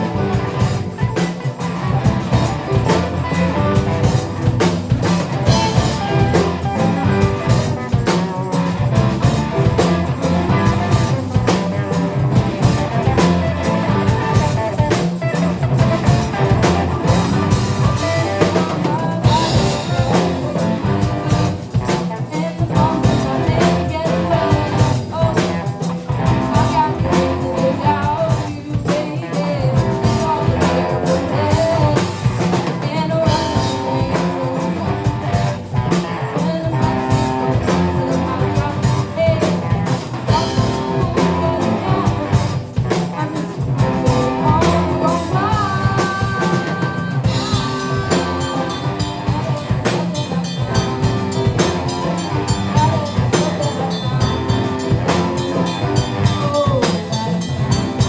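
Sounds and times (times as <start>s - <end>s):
drum kit: 0.0s - 58.0s
electric guitar: 0.0s - 58.0s
person singing: 0.0s - 58.0s.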